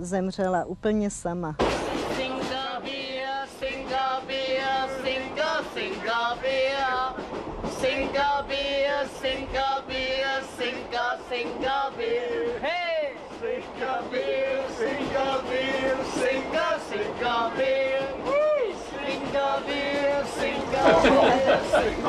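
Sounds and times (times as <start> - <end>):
train carriage low hum: 0.0 - 22.0
men singing together: 2.0 - 22.0.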